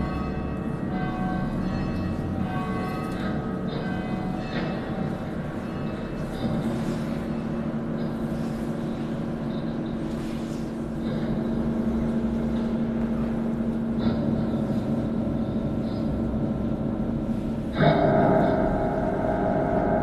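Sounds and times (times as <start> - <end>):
droning held tones: 0.0 - 20.0.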